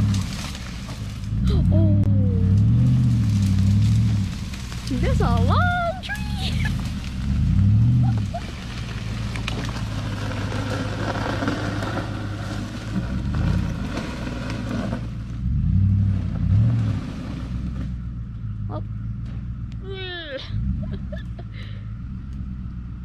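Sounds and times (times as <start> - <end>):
engine revving under load: 0.0 - 19.7.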